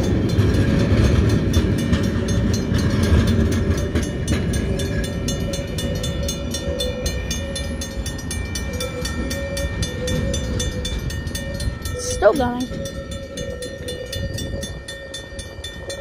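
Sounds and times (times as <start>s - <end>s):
crossing bells ringing: 0.0s - 16.0s
train rumbling: 0.0s - 16.0s.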